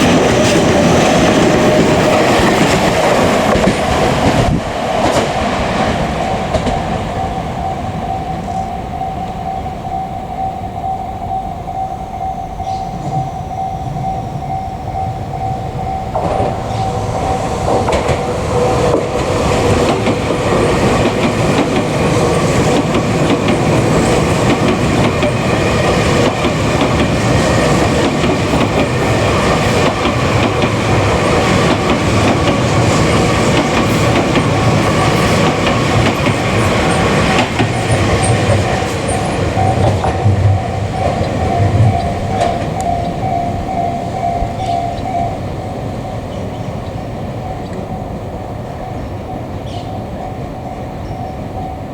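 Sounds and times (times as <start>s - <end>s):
train wheels rumbling on rails: 0.0s - 51.9s
train whining tones: 0.0s - 51.9s.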